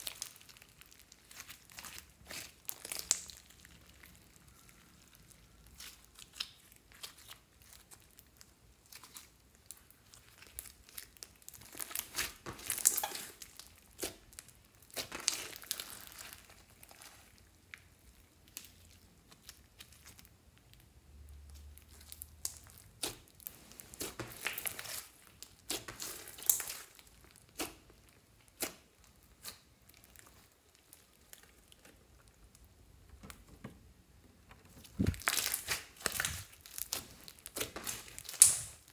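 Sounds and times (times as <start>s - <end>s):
slime crackling and popping: 0.0s - 33.3s, 34.8s - 38.9s.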